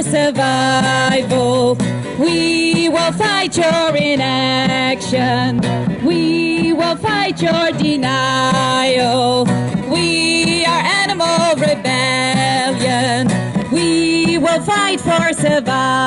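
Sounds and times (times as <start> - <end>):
strummed acoustic guitar: 0.0 - 16.0
woman singing into microphone: 0.0 - 16.0.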